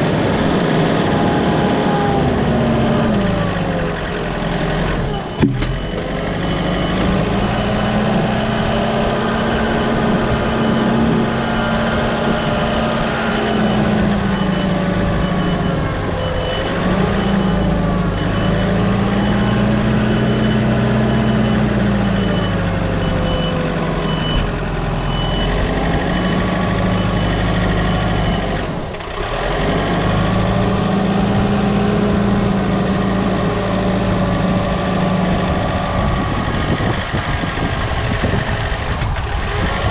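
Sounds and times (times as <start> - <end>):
heavy machine engine under load: 0.0 - 39.9.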